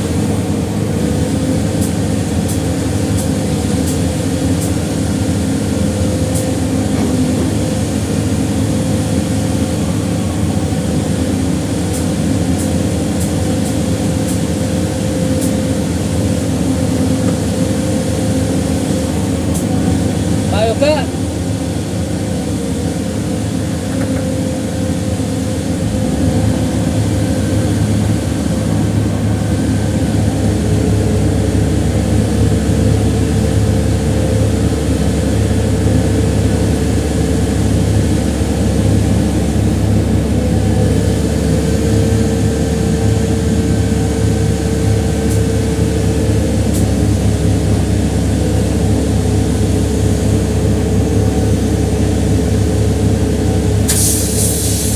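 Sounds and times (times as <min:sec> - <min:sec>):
heavy engine droning: 0:00.0 - 0:54.9.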